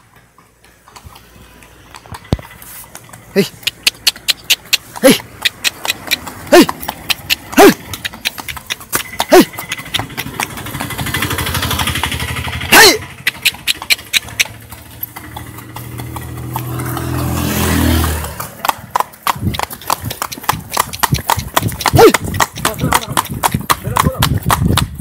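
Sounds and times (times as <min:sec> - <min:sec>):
horse hooves clip-clopping on asphalt: 0:00.0 - 0:25.0
vehicle engine revving: 0:01.0 - 0:22.9.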